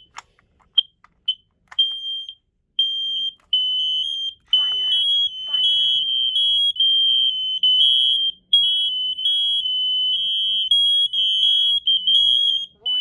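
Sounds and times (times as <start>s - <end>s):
smoke alarms beeping: 0.8s - 13.0s.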